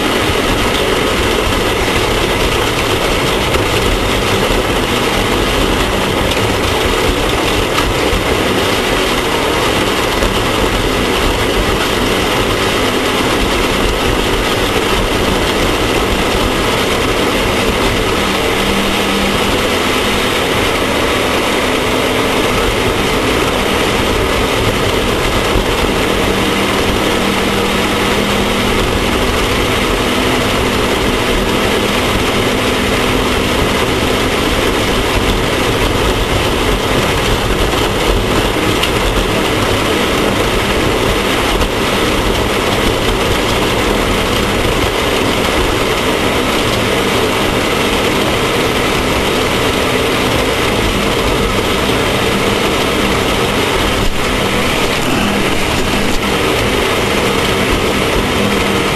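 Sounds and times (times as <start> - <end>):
off-road vehicle engine running: 0.0 - 58.9.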